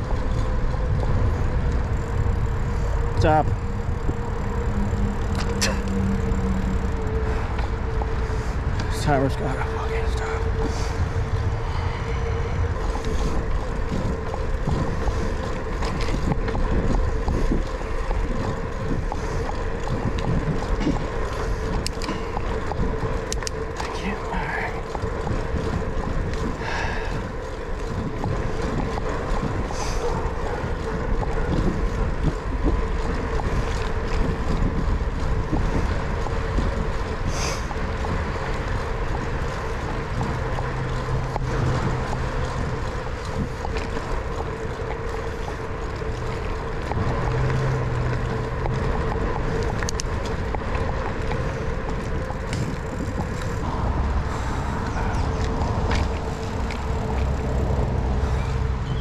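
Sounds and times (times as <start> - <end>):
steady hum: 0.0 - 59.0
wind buffeting microphone: 0.0 - 59.0.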